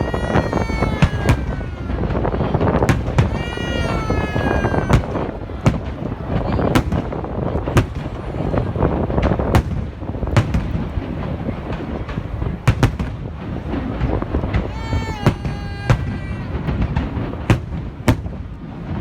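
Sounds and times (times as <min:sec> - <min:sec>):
fireworks sharp bangs: 0:00.0 - 0:19.0
low fireworks booms rumbling: 0:00.0 - 0:19.0.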